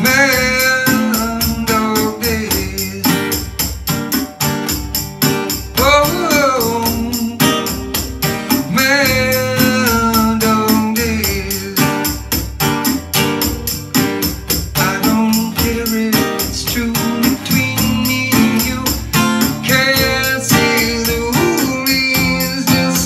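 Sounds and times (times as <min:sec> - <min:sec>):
man singing: 0:00.0 - 0:03.7, 0:05.7 - 0:12.5, 0:14.7 - 0:23.0
acoustic guitar strumming: 0:00.0 - 0:23.0.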